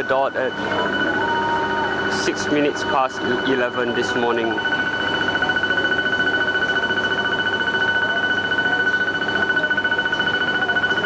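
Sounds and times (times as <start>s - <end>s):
high-pitched warning buzzer: 0.0s - 11.0s.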